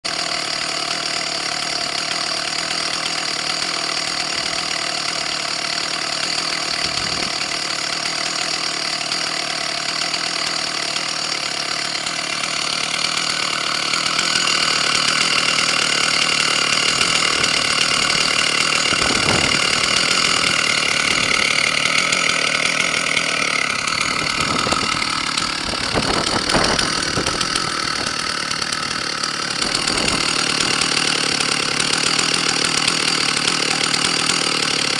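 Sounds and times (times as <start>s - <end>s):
chainsaw idling: 0.0s - 34.9s.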